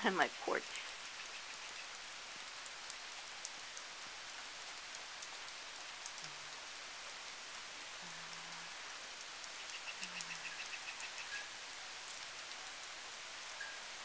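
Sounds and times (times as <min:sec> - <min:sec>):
hiss of wet snow falling: 0:00.0 - 0:14.0.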